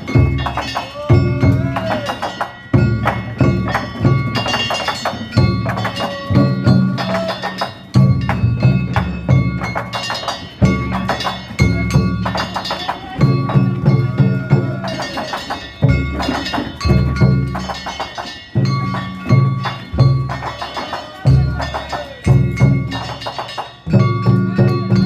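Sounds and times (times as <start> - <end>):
brass gongs clanging: 0.0 - 25.0
large taiko drum beating: 0.0 - 25.0.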